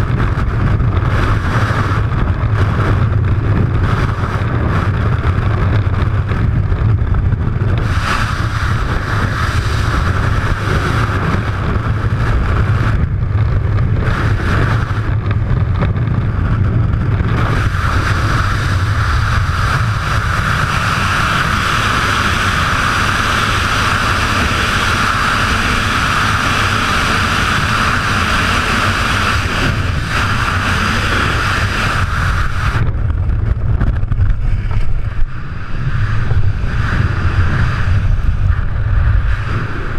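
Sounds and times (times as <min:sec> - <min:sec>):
freefall wind rushing: 0:00.0 - 0:39.9.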